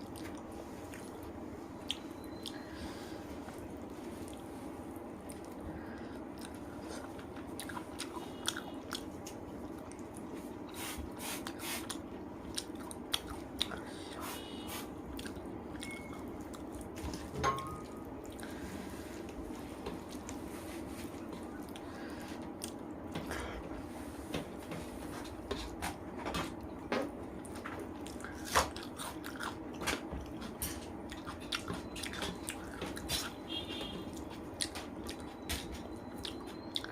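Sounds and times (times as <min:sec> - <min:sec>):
person chewing food: 0:00.0 - 0:23.6, 0:27.4 - 0:36.9
steady low hum: 0:00.0 - 0:36.9.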